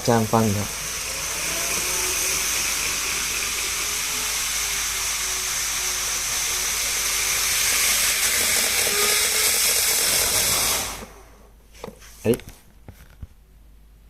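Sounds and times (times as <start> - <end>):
faint wavering motor whine: 0.0 - 11.5
model train whirring hiss: 0.0 - 11.5.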